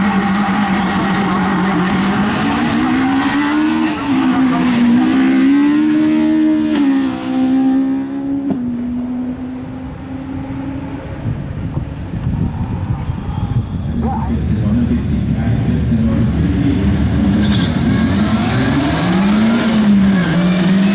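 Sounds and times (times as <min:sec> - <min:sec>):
race car engine revving: 0:00.0 - 0:20.9.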